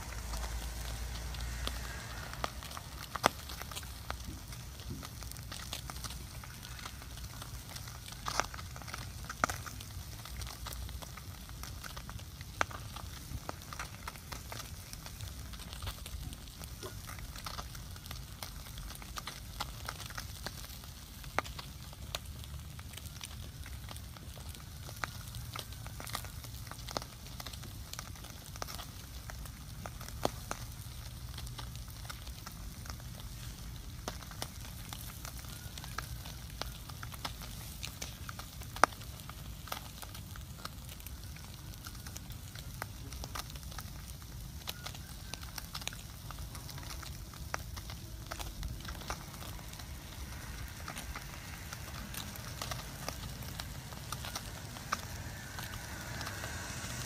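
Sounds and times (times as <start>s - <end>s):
low steady rumble: 0.0s - 44.6s, 45.6s - 57.0s
wood fire crackling and popping: 0.0s - 57.0s.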